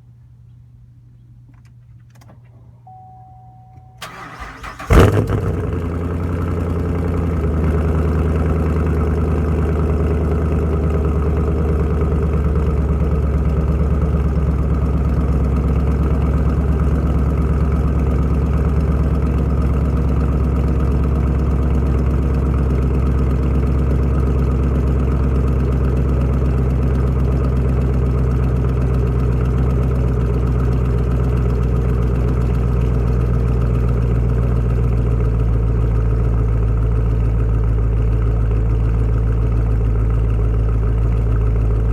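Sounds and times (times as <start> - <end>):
car engine idling: 1.6 - 41.9.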